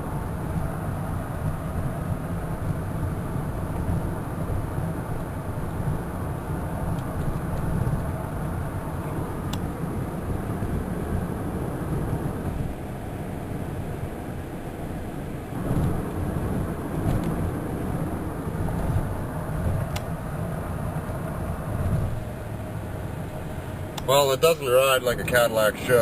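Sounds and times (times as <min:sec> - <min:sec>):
road and engine rumble in car cabin: 0:00.0 - 0:26.0.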